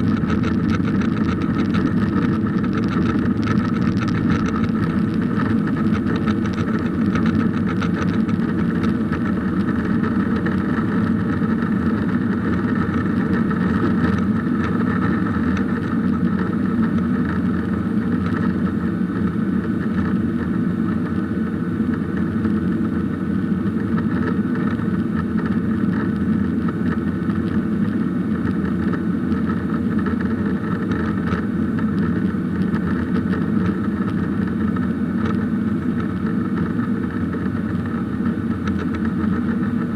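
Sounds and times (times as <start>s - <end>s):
jet engine hum: 0.0s - 39.9s.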